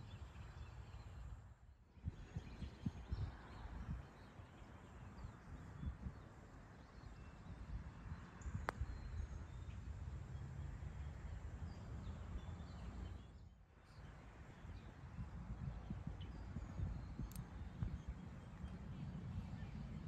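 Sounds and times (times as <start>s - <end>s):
wind on microphone: 0.0s - 20.0s
faint bird chirps: 2.0s - 10.2s, 11.0s - 20.0s.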